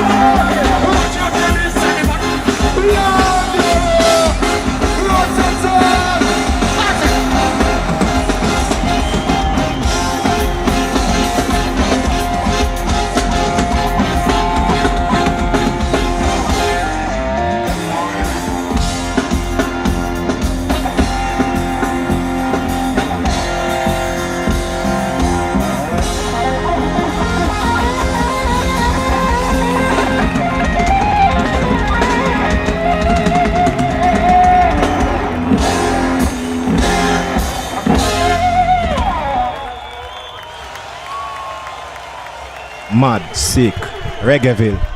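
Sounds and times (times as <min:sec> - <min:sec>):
instrumental reggae band music: 0:00.0 - 0:40.0.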